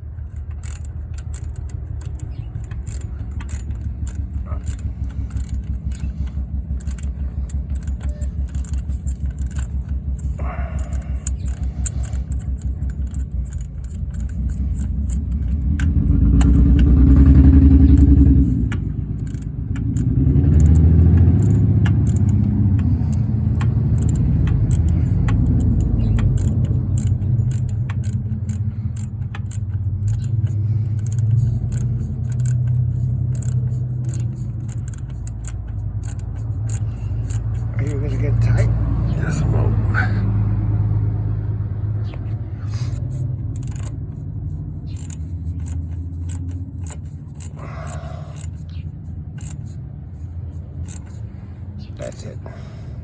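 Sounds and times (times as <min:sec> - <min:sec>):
light metallic clicks: 0:00.0 - 0:40.0, 0:42.0 - 0:53.0
vehicle engine running: 0:00.0 - 0:53.0.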